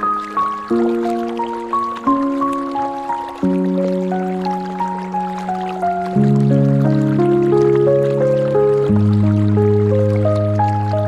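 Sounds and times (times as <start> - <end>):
gentle ambient music: 0.0 - 11.0
trickling and dripping water: 0.0 - 11.0.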